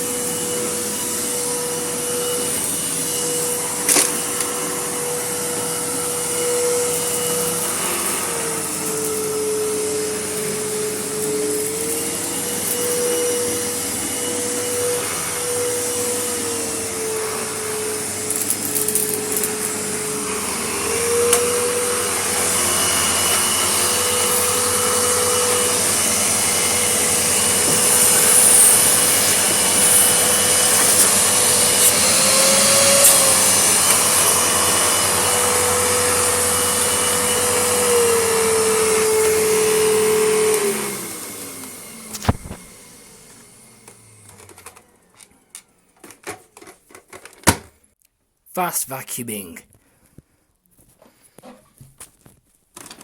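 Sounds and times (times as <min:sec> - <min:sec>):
vacuum cleaner running: 0:00.0 - 0:46.7.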